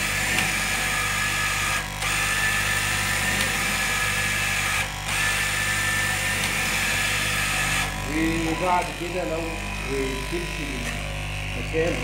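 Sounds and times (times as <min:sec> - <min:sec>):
cutting machine motor hum: 0:00.0 - 0:12.0.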